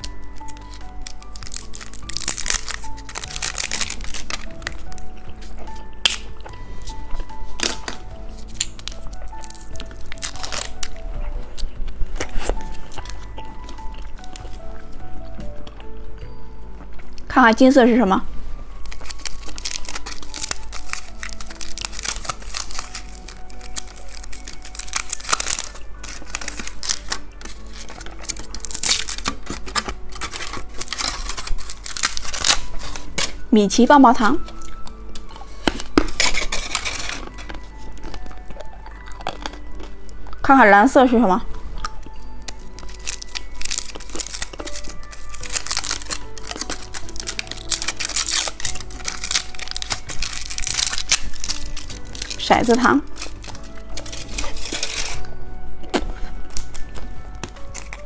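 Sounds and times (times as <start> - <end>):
candy wrapper crinkling: 0.0 - 16.2, 16.9 - 58.0
background music: 0.0 - 58.0.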